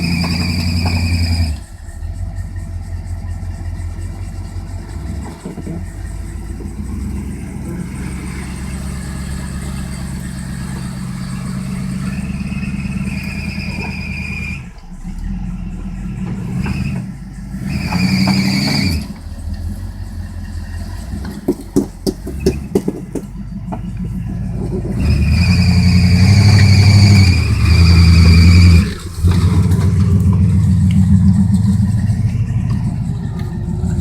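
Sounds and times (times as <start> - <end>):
car engine revving with whine: 0.0 - 34.0.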